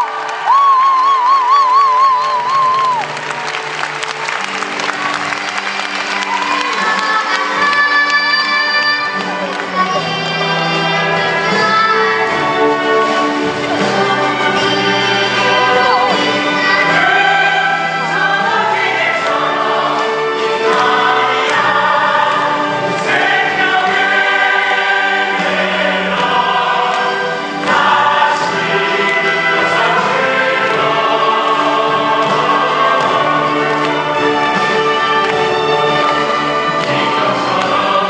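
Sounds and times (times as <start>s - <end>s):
orchestral accompaniment: 1.7s - 38.0s
choir singing: 4.8s - 38.0s.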